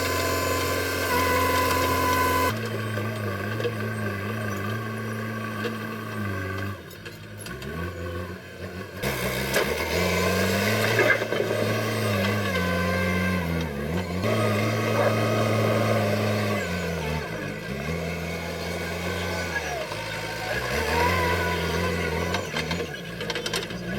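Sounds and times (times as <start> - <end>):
diesel engine revving: 0.0 - 23.9.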